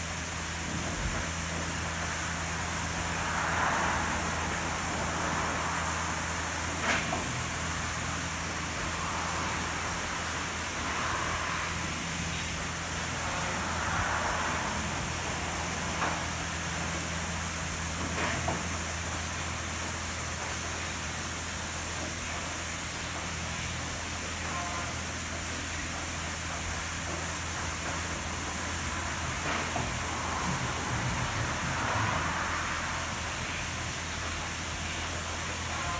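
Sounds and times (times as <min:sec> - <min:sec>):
high-pressure water spray hiss: 0:00.0 - 0:35.9
low machine hum: 0:00.0 - 0:35.9.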